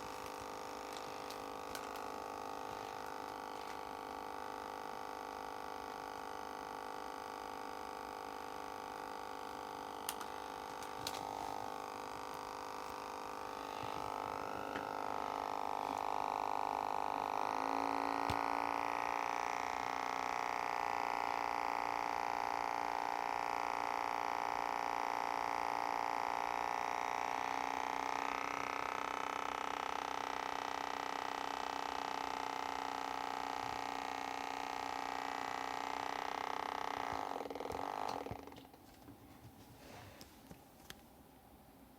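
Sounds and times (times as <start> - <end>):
cooling fan humming whine: 0.0 - 41.9.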